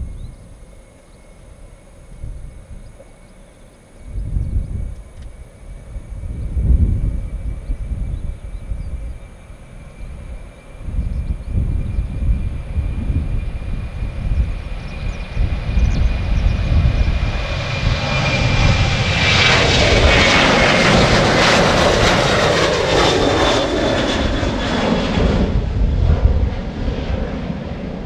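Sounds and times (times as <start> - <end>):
jet engines at takeoff power: 0.0 - 28.0.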